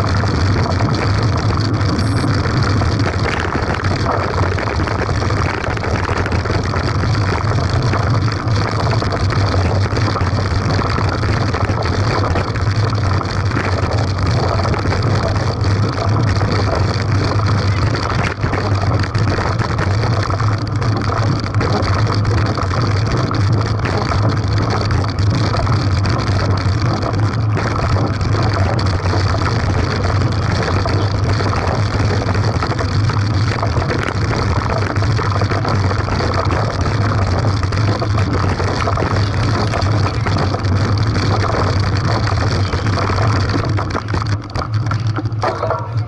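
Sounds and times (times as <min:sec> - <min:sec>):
constant low hum: 0:00.0 - 0:46.0
tyres rumbling on rough road: 0:00.0 - 0:46.0
wind on microphone: 0:00.0 - 0:46.0.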